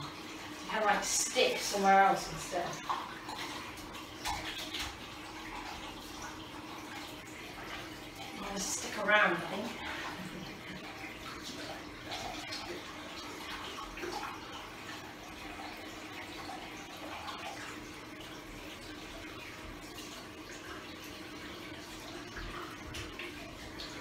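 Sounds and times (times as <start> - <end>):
tap water running into basin: 0.0 - 24.0.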